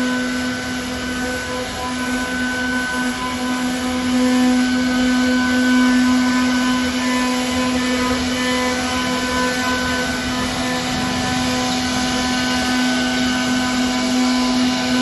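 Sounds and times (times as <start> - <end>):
router spindle motor whine: 0.0 - 15.0.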